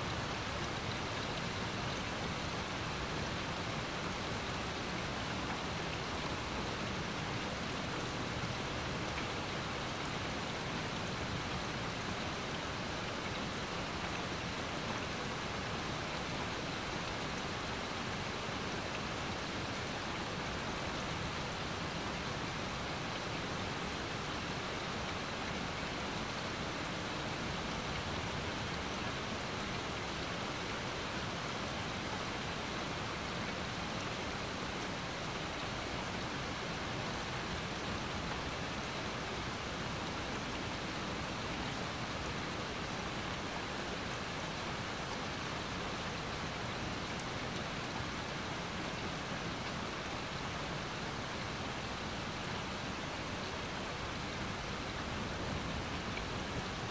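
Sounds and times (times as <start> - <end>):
steady rain on trees: 0.0 - 56.9.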